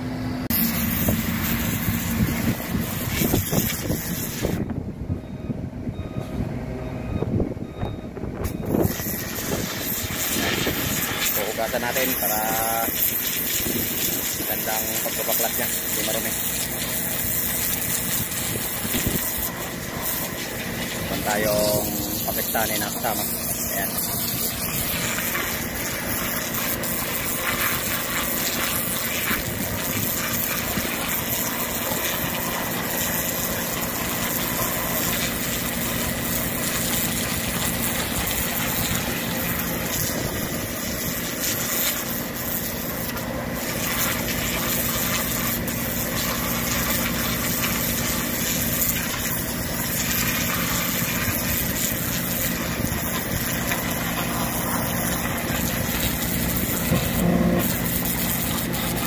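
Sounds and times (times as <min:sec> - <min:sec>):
pressure washer humming: 0:00.0 - 0:04.8, 0:08.2 - 0:59.0
water jet spraying: 0:00.5 - 0:04.7, 0:08.6 - 0:59.0.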